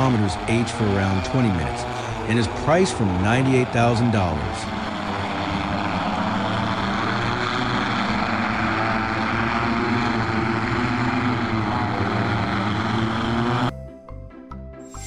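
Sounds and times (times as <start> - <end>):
multirotor propellers whirring: 0.0 - 13.7.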